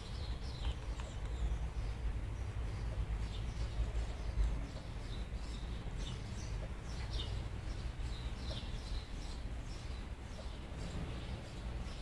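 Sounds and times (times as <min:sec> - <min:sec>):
small songbirds chirping: 0:00.0 - 0:12.0
steady low rumble: 0:00.0 - 0:12.0.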